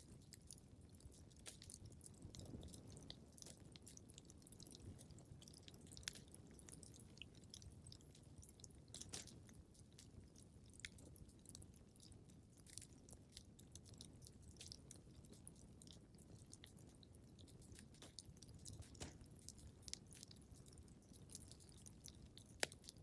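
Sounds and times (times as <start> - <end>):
faint wood fire crackling: 0.0 - 23.0.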